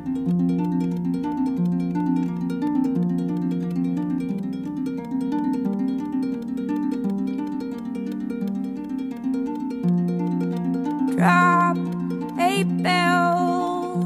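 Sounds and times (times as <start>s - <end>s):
solo harp playing: 0.0s - 14.0s.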